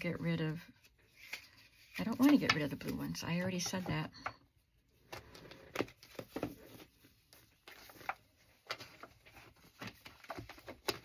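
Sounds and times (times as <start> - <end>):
paper cards tapping and rustling: 1.1 - 4.4, 5.0 - 11.0.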